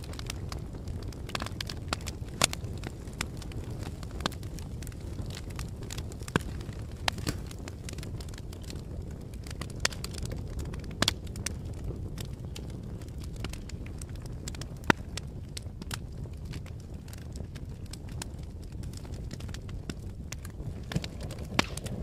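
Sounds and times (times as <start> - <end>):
fire crackling with pops: 0.0 - 22.0.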